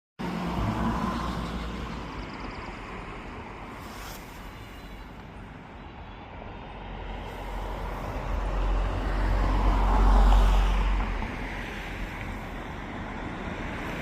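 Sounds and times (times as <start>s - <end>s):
road vehicle passing: 0.2s - 14.0s.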